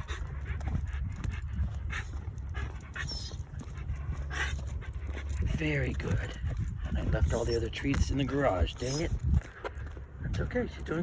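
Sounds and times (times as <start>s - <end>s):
low rumble: 0.0s - 10.8s
dog panting: 0.0s - 11.0s.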